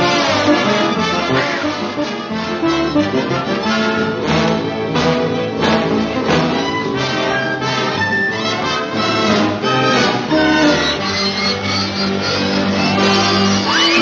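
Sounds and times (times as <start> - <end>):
orchestral cartoon music with brass: 0.0 - 14.0.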